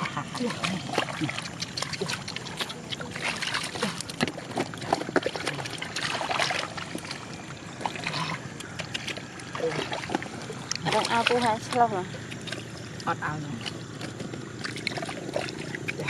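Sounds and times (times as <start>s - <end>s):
splashing in muddy water: 0.0s - 16.0s.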